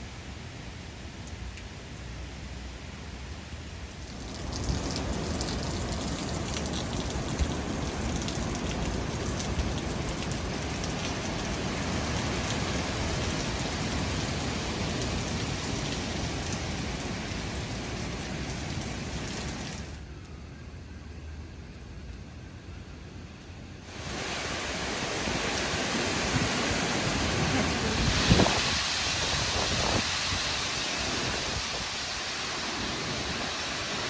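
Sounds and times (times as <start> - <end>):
rain falling steadily: 0.0 - 34.0.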